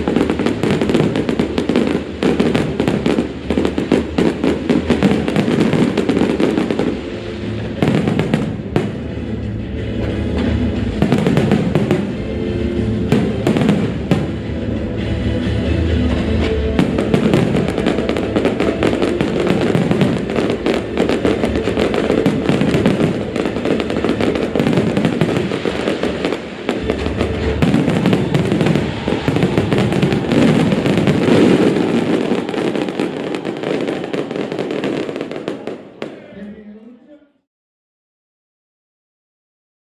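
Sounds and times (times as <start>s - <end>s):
fireworks bursting and crackling: 0.0s - 36.3s
music playing: 0.0s - 36.7s.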